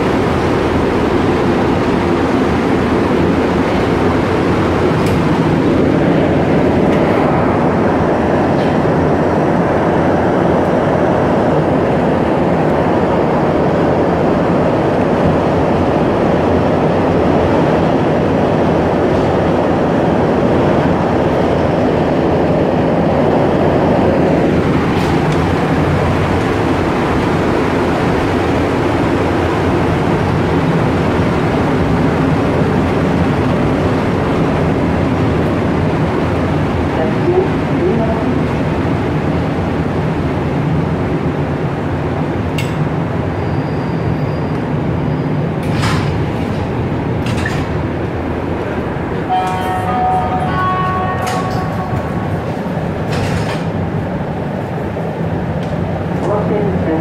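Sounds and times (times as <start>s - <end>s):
subway train running rumble: 0.0s - 57.0s.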